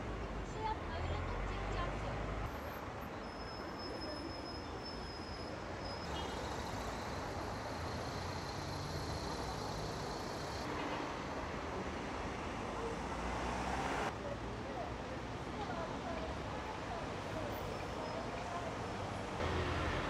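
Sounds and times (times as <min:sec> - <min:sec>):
city traffic rumbling: 0:00.0 - 0:20.0.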